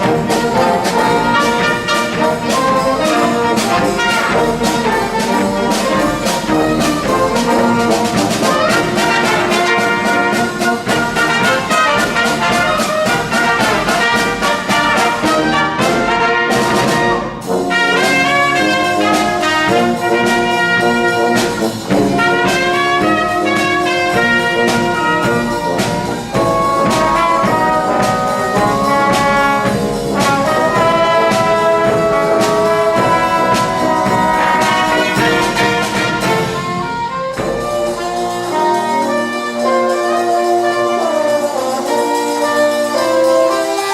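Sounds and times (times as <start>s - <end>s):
drum beat: 0.0s - 41.4s
brass band playing: 0.0s - 43.9s.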